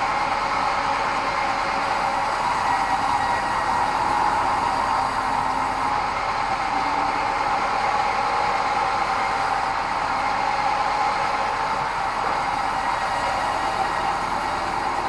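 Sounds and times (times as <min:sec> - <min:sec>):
band saw running: 0:00.0 - 0:15.0.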